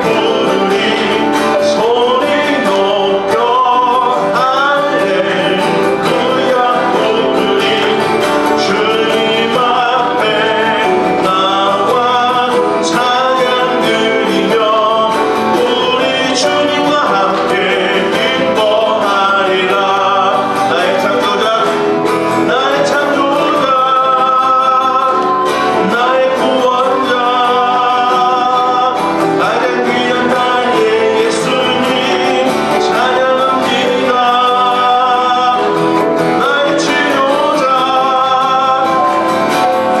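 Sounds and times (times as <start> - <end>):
acoustic guitar: 0.0 - 40.0
man singing into a microphone: 0.0 - 40.0.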